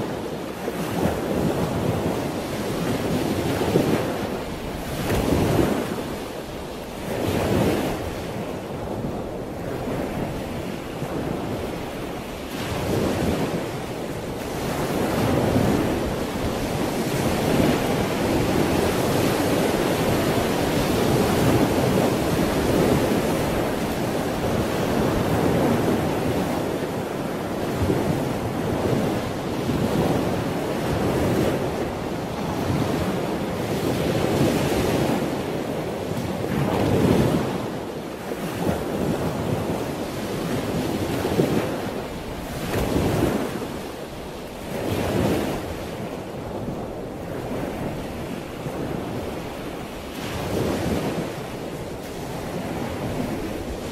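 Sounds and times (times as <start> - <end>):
ocean waves washing in: 0.0 - 53.9.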